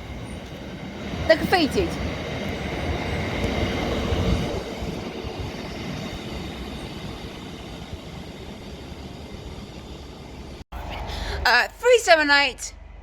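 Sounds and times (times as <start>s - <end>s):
train rolling on rails: 0.0s - 13.0s.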